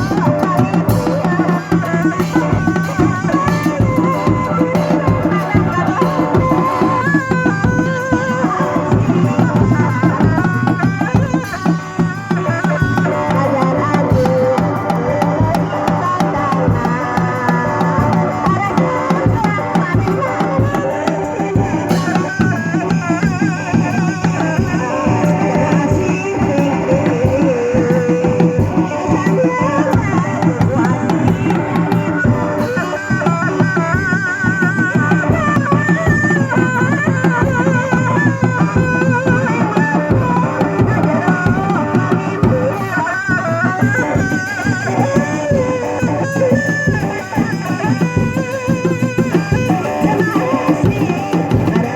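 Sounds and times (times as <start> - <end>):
hand drums beating: 0.0 - 51.9
ornamented melody line: 0.0 - 51.9.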